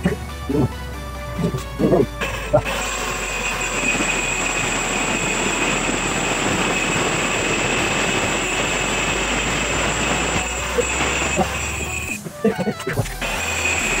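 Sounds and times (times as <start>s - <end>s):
angle grinder cutting steel: 1.4s - 14.0s.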